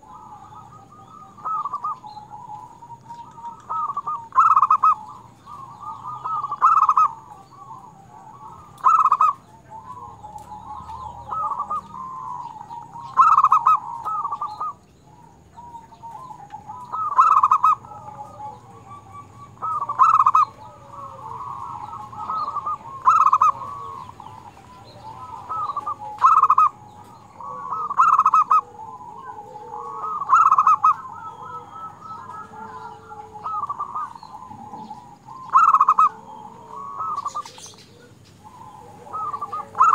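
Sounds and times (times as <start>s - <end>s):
dove cooing loudly: 0.0s - 39.9s.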